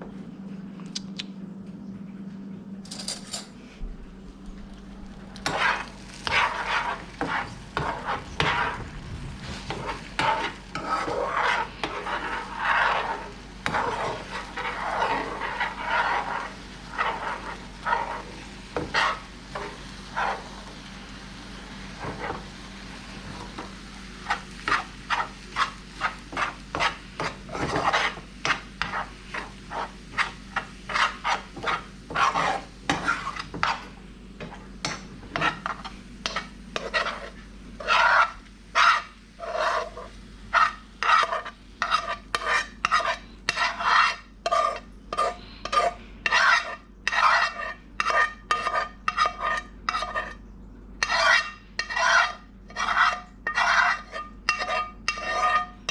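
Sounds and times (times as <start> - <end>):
utensil scraping a pan: 5.4 - 50.4, 51.0 - 55.9.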